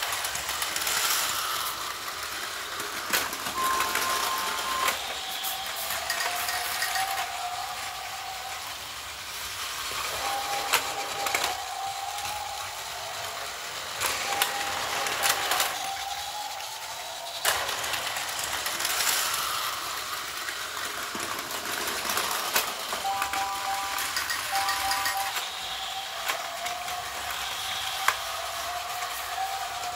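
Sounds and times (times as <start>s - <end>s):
toy train motor whirring: 0.0s - 29.9s.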